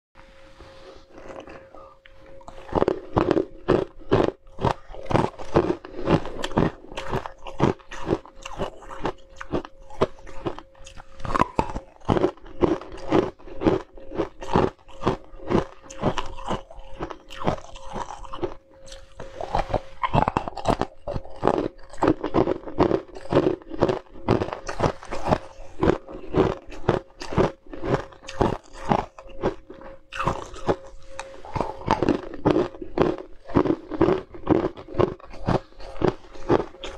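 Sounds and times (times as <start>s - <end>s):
ice crunching between teeth: 1.1s - 36.9s.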